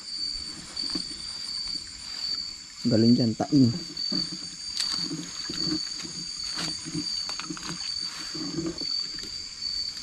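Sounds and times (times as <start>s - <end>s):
frogs croaking: 0.0s - 10.0s
insects trilling: 0.0s - 10.0s.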